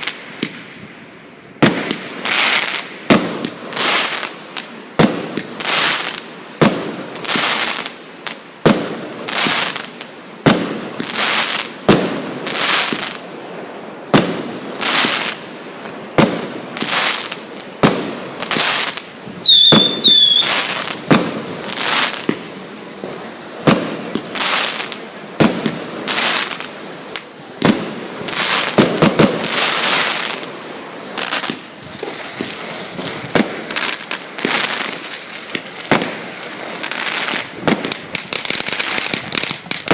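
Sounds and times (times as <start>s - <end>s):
fireworks bangs with crackling hiss: 0.0s - 39.9s.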